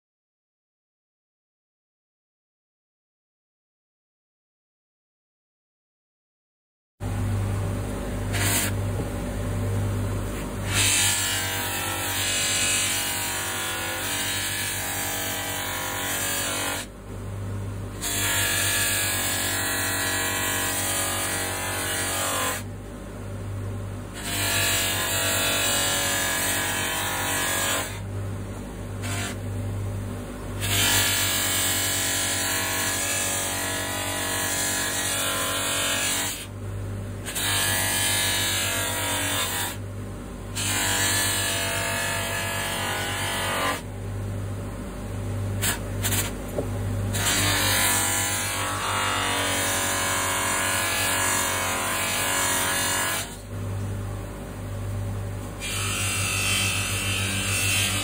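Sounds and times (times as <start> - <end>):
bench buffer motor hum: 7.0 - 58.0.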